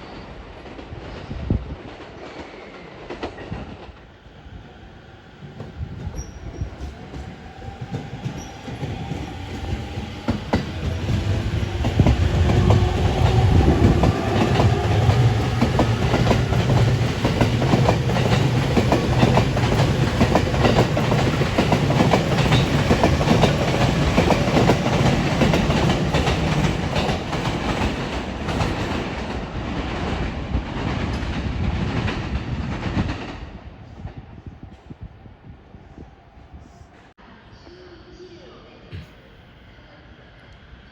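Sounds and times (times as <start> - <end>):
electric train passing: 0.0 - 33.8.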